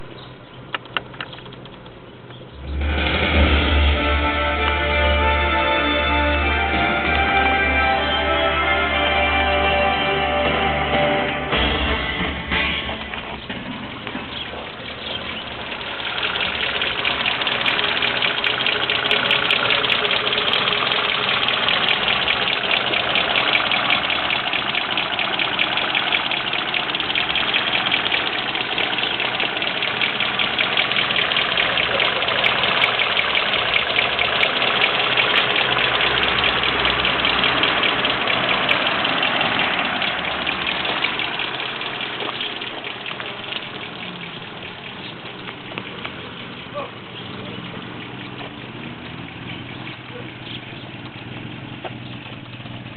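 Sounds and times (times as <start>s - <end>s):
car engine idling with ticking: 0.0s - 3.2s, 12.8s - 52.9s.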